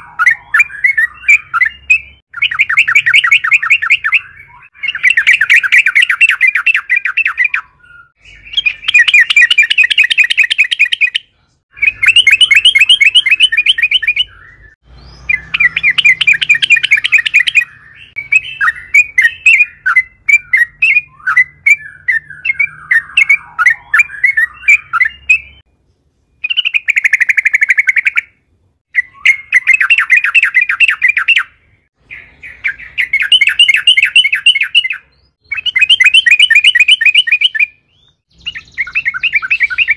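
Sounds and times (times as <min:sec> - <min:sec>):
bird chattering notes: 0:00.0 - 0:25.6, 0:32.1 - 0:39.9
bird singing bubbling phrases: 0:00.0 - 0:39.9.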